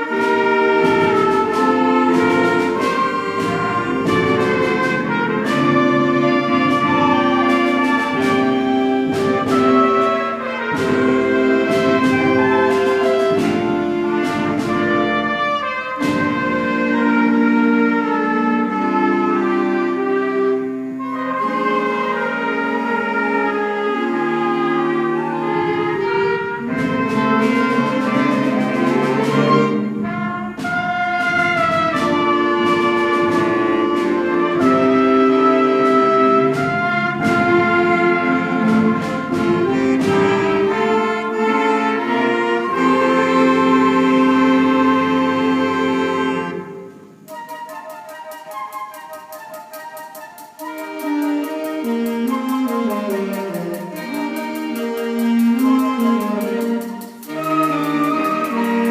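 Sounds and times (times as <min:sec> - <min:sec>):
wind band playing held chords: 0:00.0 - 0:58.9.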